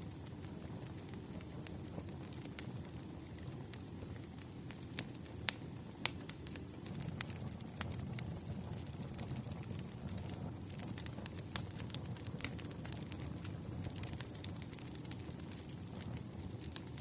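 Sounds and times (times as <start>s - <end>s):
firewood burning and crackling: 0.0s - 17.0s
sharp fire pops: 0.1s - 17.0s.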